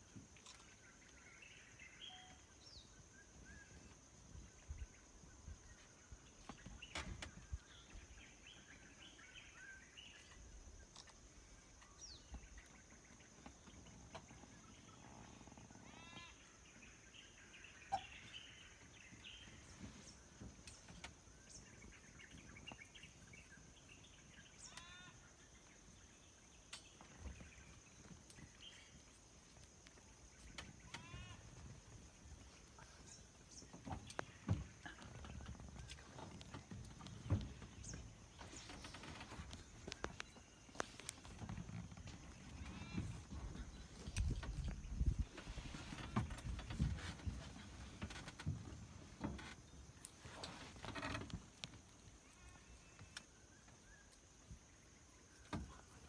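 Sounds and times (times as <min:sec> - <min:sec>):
birds chirping: 0:00.5 - 0:56.0.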